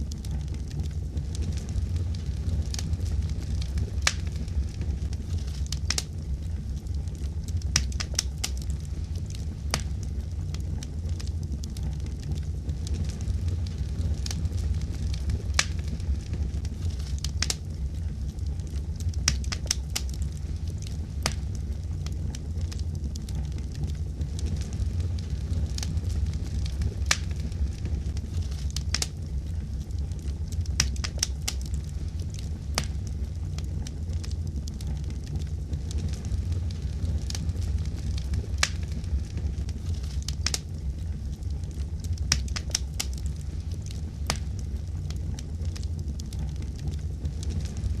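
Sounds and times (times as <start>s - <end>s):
fire popping: 0.0s - 48.0s
fire rumbling: 0.0s - 48.0s.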